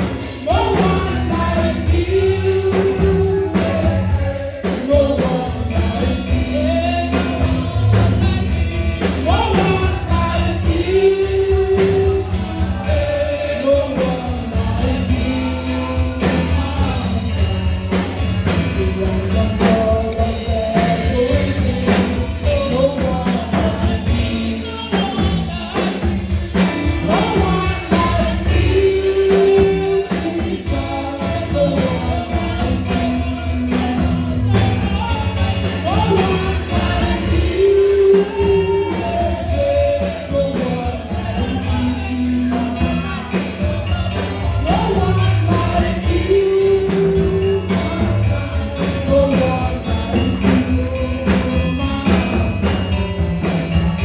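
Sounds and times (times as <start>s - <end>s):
band with bass and drums: 0.0s - 54.0s
voices singing gospel: 0.0s - 54.0s.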